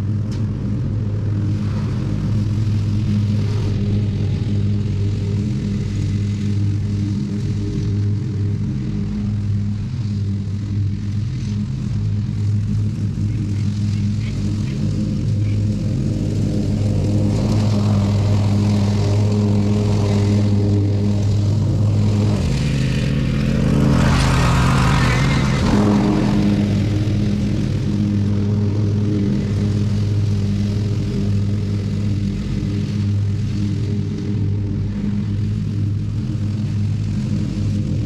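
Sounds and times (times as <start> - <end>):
ride-on lawn mower running: 0.0 - 38.0.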